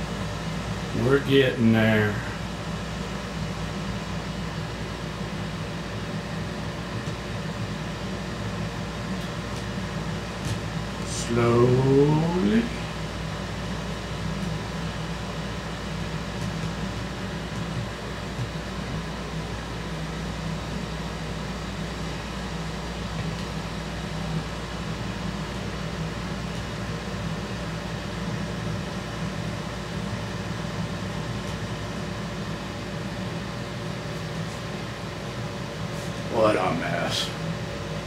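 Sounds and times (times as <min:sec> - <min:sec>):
machine humming: 0:00.0 - 0:38.0.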